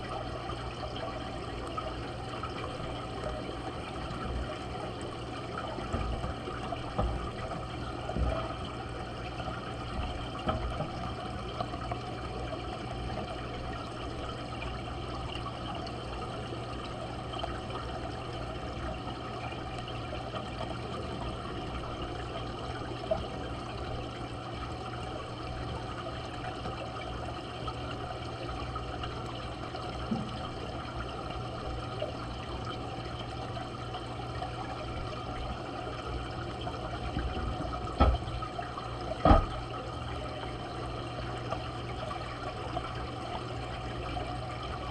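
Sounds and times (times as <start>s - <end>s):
low steady hum: 0.0s - 44.9s
water bubbling in aquarium: 0.0s - 44.9s.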